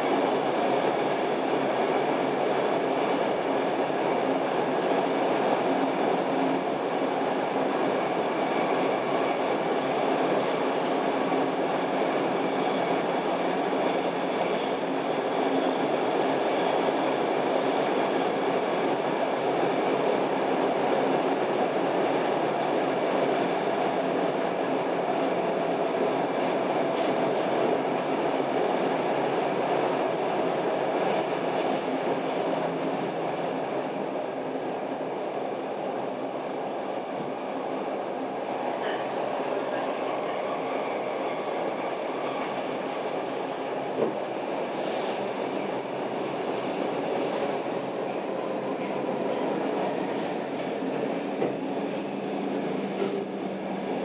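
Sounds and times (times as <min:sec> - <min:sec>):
subway wheels rumbling on rails: 0:00.0 - 0:54.0.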